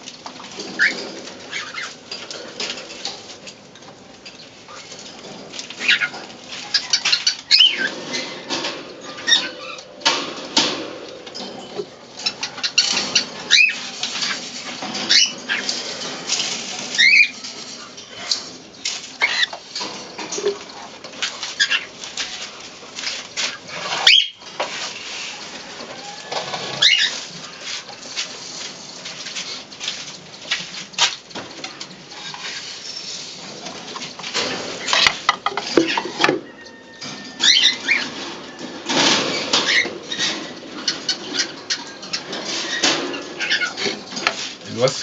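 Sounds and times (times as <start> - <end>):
pigeons pecking and scuffling: 0.0 - 45.0.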